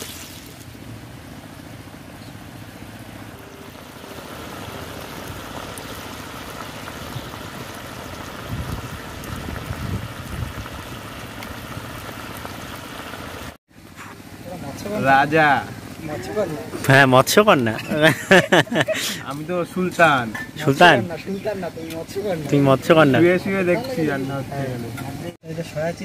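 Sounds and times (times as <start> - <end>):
low rumbles: 0.4 - 25.3.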